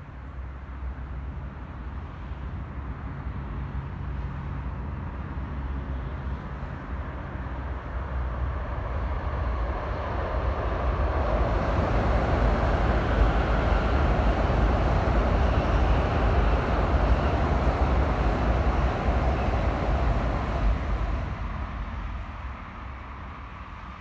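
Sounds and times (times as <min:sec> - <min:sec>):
high-speed train rushing past: 0:00.0 - 0:24.0.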